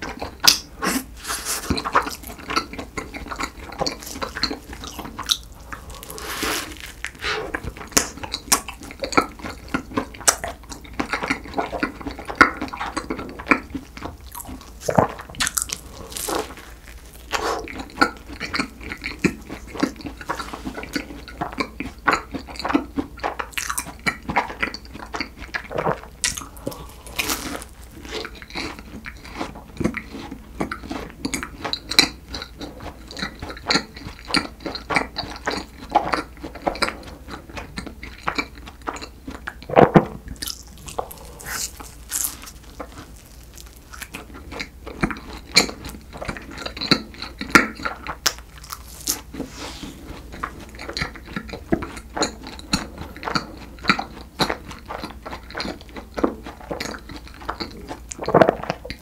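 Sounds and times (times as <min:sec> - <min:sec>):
crunching and chewing pastry: 0:00.0 - 0:59.0.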